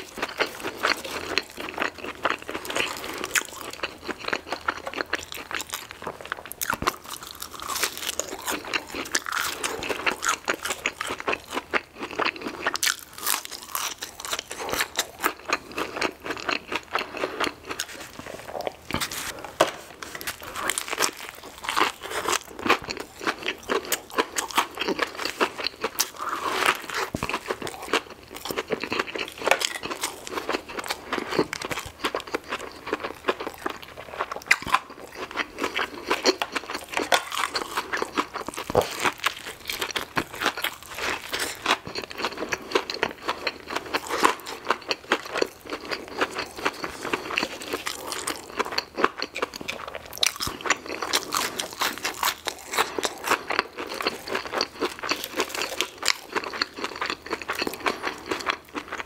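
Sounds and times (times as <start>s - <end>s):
crunchy chewing of fried chicken: 0.0s - 59.0s.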